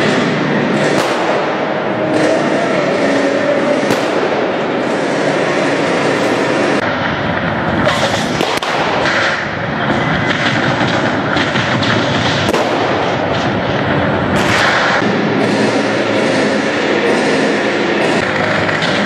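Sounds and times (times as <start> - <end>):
pyrotechnic bangs and crackles: 0.0 - 19.0
steady noisy din: 0.0 - 19.0.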